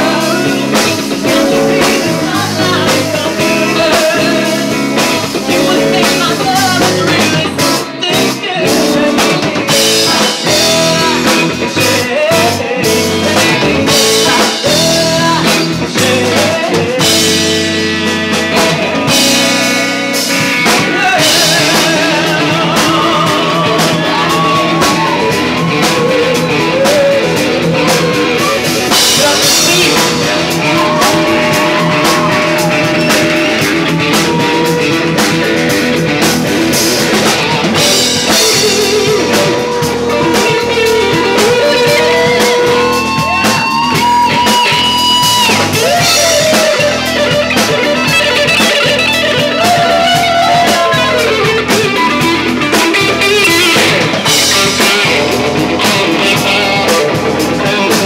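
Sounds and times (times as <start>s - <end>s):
drum kit: 0.0s - 58.0s
electric bass: 0.0s - 58.0s
electric guitar: 0.0s - 58.0s
man singing: 0.0s - 58.0s.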